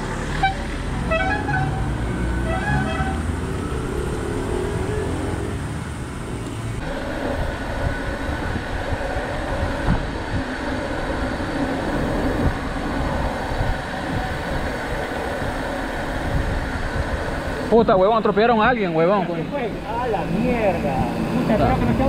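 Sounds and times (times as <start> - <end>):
road traffic rumble: 0.0 - 22.0
wind: 0.0 - 22.0.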